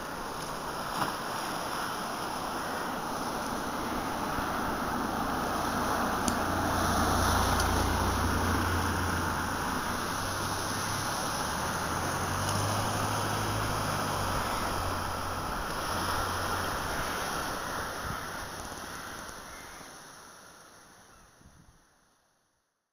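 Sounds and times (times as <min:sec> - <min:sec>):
sea waves: 0:00.0 - 0:21.4
wind: 0:00.0 - 0:22.9.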